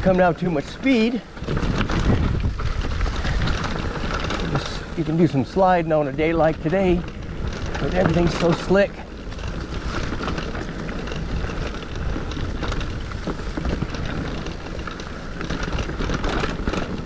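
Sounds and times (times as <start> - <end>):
bike tyres rolling over dry leaves: 0.0 - 17.0
wind rumble on microphone: 0.0 - 17.0.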